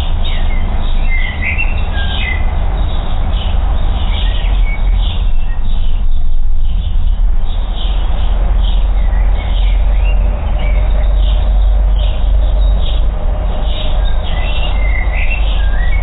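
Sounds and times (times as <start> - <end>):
songbirds chirping: 0.0 - 16.0
steady low rumble: 2.4 - 16.0.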